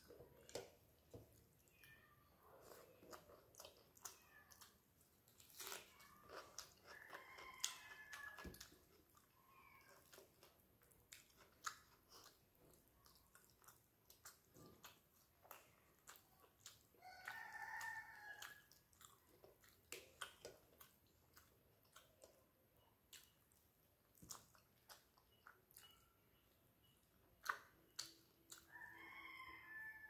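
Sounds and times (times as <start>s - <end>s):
wet chewing and lip smacks: 0.0s - 29.6s.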